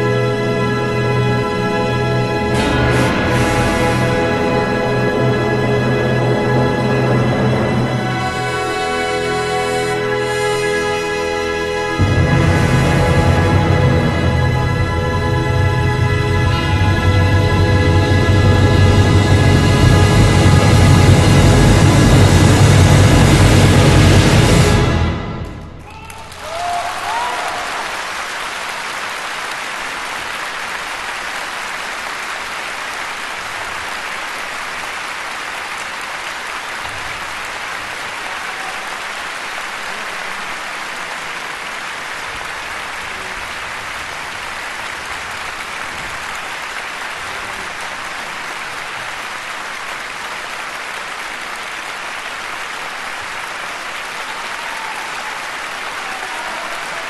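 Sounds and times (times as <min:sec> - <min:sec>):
audience applauding: 0:02.0 - 0:57.0.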